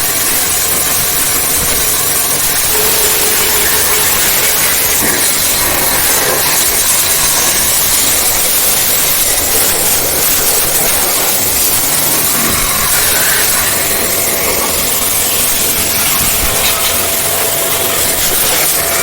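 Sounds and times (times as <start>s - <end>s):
pressure washer spraying: 0.0s - 19.0s.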